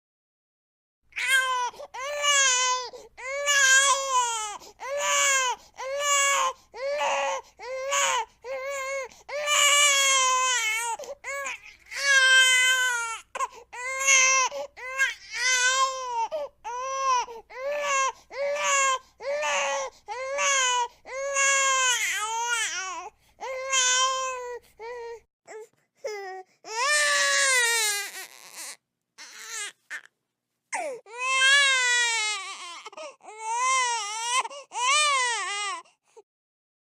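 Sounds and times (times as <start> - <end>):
infant crying: 1.1 - 30.1, 30.7 - 35.9.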